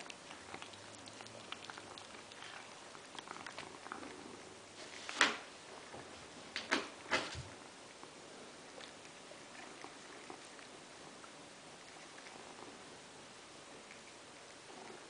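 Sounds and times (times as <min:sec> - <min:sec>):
cat chewing: 0:00.0 - 0:06.6, 0:07.5 - 0:15.0.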